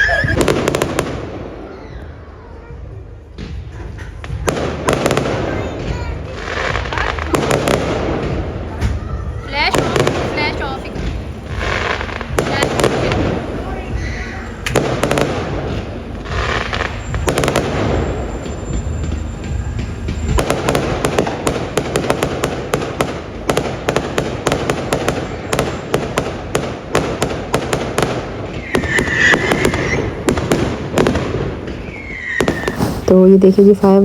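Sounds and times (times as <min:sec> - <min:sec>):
whistling fireworks: 0:00.0 - 0:33.9
firework bangs: 0:00.0 - 0:34.0
rapid crackling of fireworks: 0:00.0 - 0:34.0.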